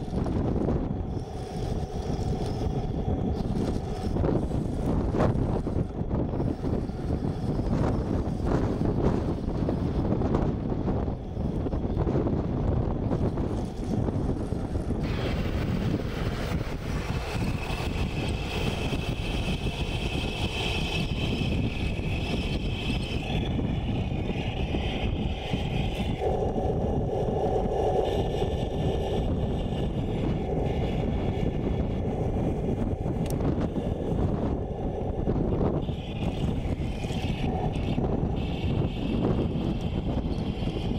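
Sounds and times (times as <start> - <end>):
electric motors whining: 0.0 - 40.9
wind buffeting microphone: 0.0 - 40.9.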